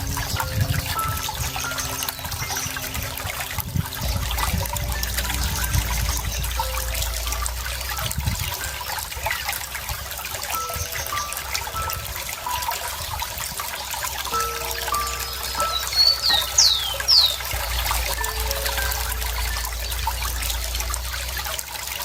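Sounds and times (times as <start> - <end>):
stream trickling and bubbling: 0.0 - 22.0.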